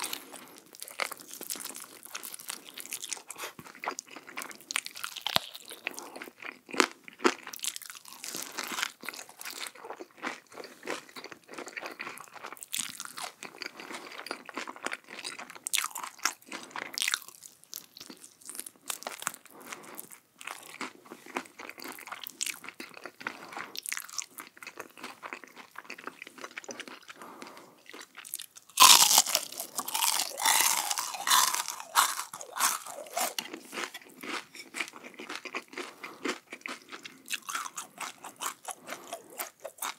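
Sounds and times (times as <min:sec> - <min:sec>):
person chewing crisp food: 0:00.0 - 0:39.9.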